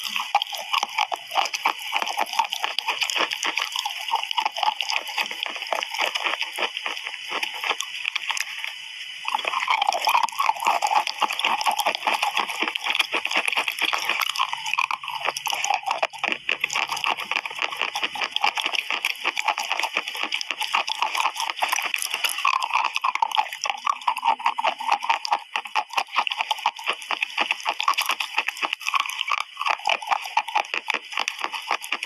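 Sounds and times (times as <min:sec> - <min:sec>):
chewing chalk crunches: 0:00.0 - 0:32.0
wet mouth sounds: 0:00.0 - 0:32.0.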